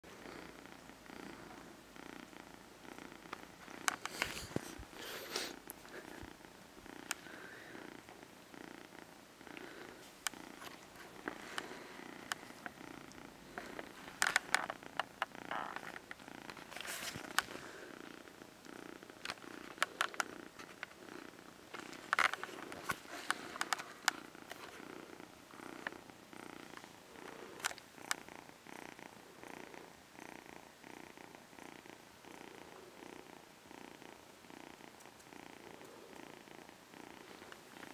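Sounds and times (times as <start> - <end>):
kitten purring: 0.0 - 37.9.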